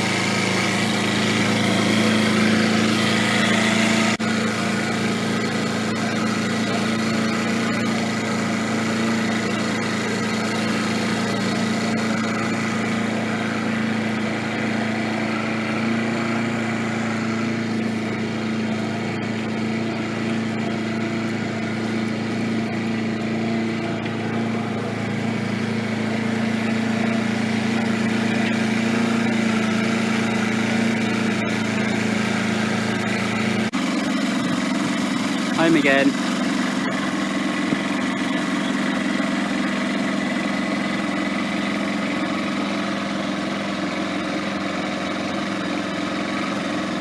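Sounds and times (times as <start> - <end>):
boat motor humming: 0.0 - 47.0.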